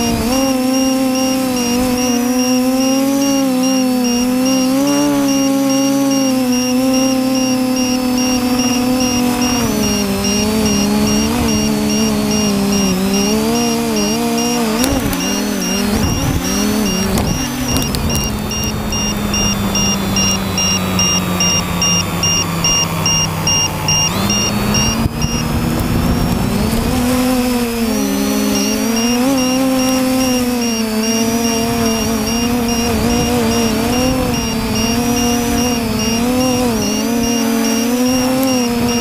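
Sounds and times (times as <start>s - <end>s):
faint high pulsing tone: 0.0s - 39.0s
quadcopter motors humming: 0.0s - 39.0s.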